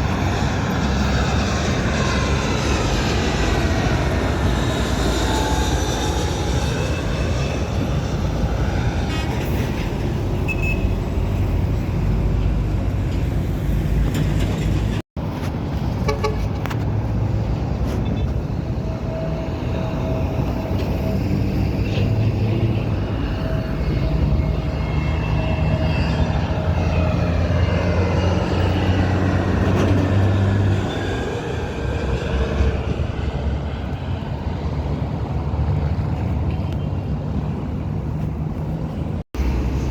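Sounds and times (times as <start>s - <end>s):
engine whine: 0.0s - 39.9s
jet engines rumbling overhead: 0.0s - 39.9s.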